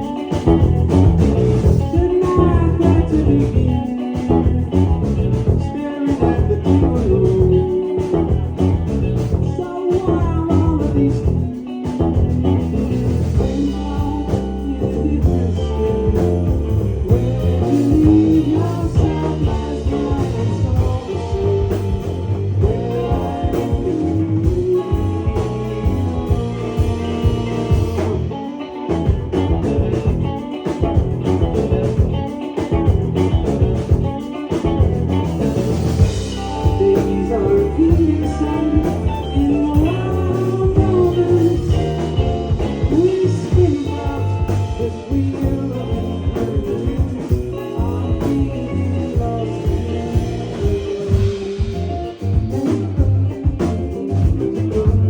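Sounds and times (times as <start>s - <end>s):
bass: 0.0s - 55.0s
drums: 0.0s - 55.0s
electric guitar: 0.0s - 55.0s
person singing: 0.0s - 55.0s.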